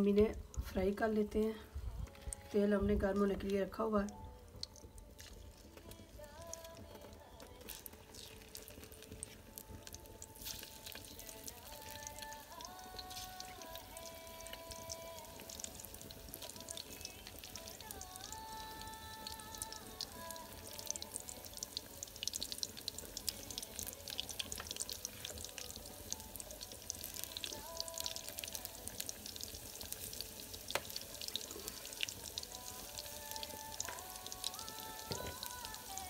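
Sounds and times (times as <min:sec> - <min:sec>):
food deep-frying in oil: 0:02.5 - 0:36.0.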